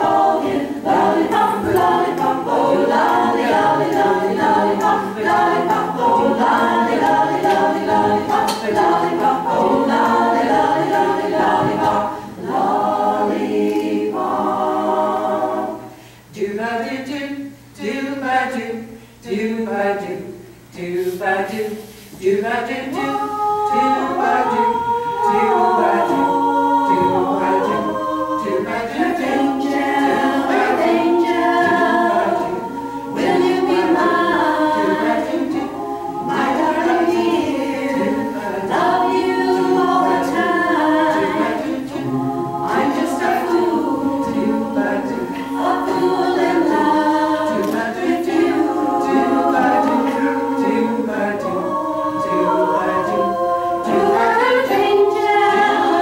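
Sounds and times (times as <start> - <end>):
women singing a cappella: 0.0 - 56.0.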